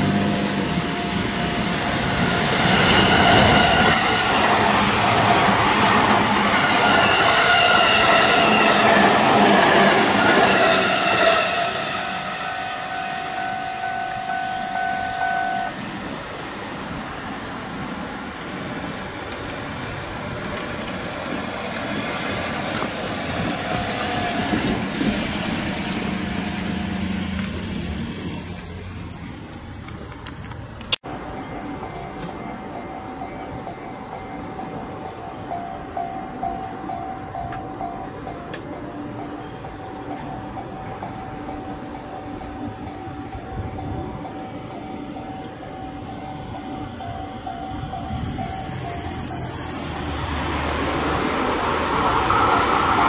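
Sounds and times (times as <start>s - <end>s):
electric train passing at speed: 0.0s - 53.0s
train approaching with hiss and rumble: 0.0s - 53.0s.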